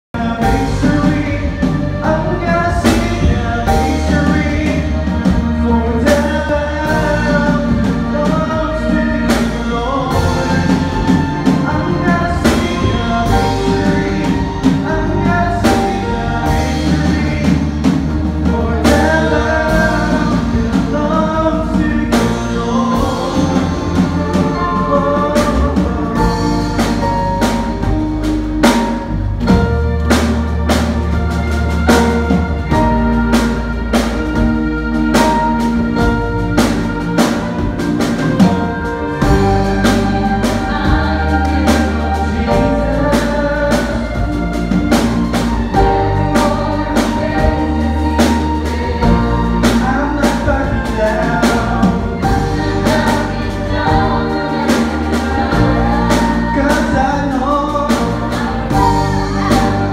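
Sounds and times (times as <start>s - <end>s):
man singing lead vocals: 0.1s - 27.9s, 38.3s - 59.9s
band playing: 0.1s - 59.9s
group singing: 0.2s - 28.1s, 36.8s - 59.9s.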